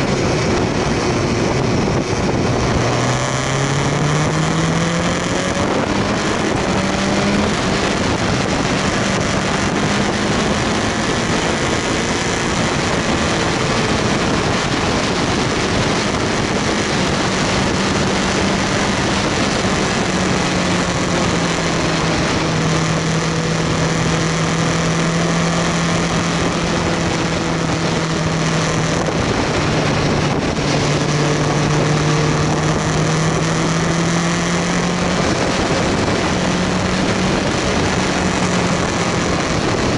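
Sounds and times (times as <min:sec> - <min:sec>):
motorcycle engine revving: 0:00.0 - 0:39.9
wind and road rush: 0:00.0 - 0:39.9.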